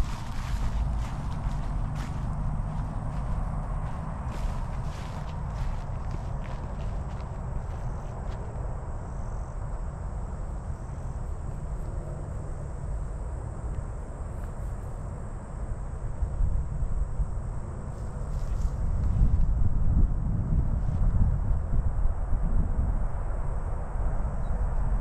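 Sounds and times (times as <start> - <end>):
insects chirring: 0.0 - 20.2
wind rumbling on microphone: 0.0 - 25.0.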